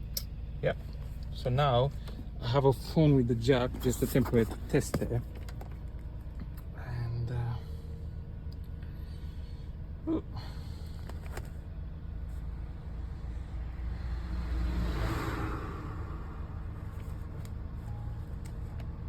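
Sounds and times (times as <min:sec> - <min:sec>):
van engine idling: 0:00.0 - 0:14.5, 0:15.5 - 0:19.0.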